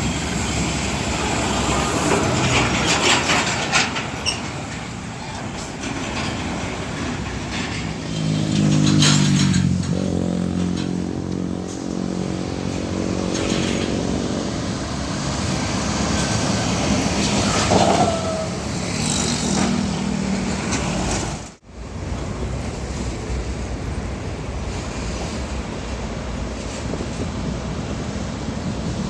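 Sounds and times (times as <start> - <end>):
diesel trucks driving past: 0.0 - 29.0
road and traffic noise: 0.0 - 29.0.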